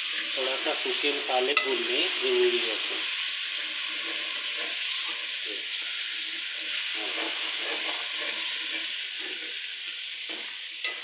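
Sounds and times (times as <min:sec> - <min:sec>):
spices sizzling in hot oil: 0:00.0 - 0:11.0
spoon scraping pan: 0:00.0 - 0:11.0.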